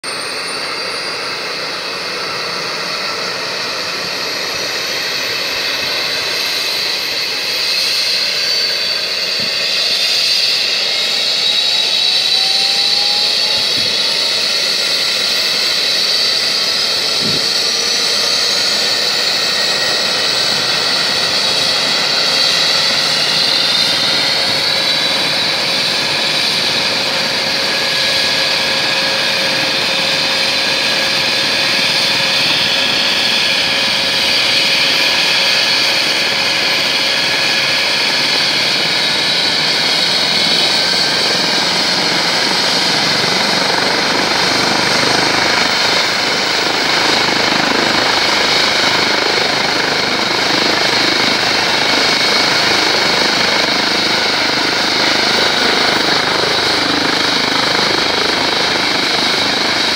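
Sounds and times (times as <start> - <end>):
helicopter turbine whine: 0.0 - 59.9.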